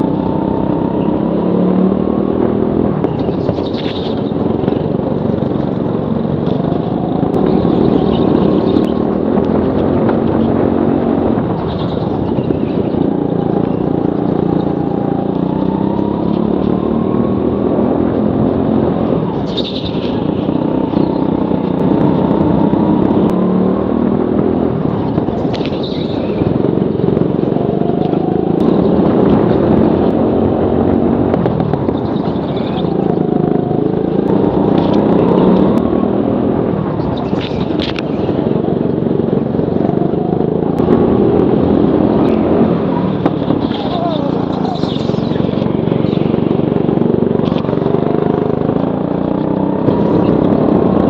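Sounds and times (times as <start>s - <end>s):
go-kart engines racing: 0.0s - 51.0s.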